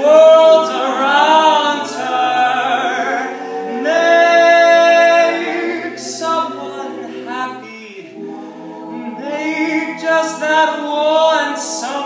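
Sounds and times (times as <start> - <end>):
male a cappella group singing: 0.0 - 12.0.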